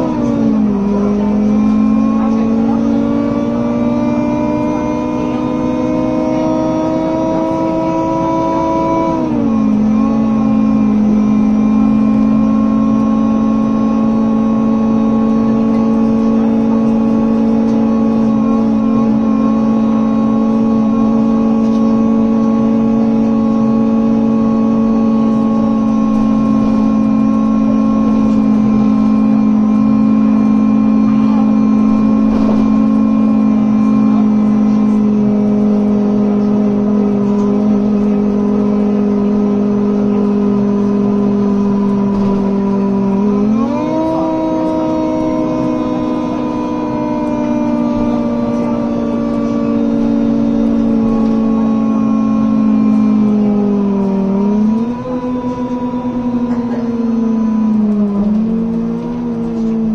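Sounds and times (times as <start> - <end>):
bus cooling fans humming: 0.0 - 59.9.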